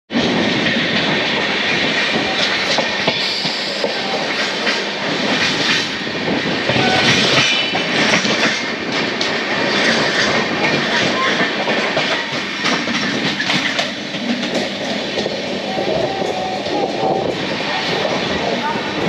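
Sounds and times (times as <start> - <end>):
train wheels clattering on rails: 0.1 - 19.0.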